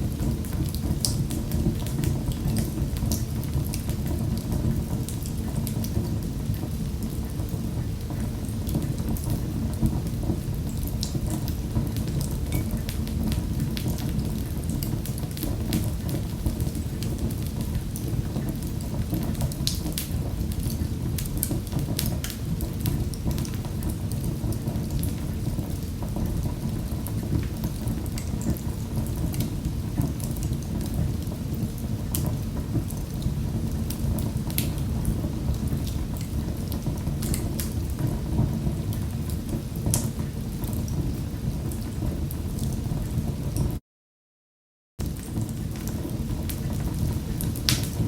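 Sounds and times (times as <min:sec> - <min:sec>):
wood fire crackling: 0:00.0 - 0:43.8, 0:45.0 - 0:48.0.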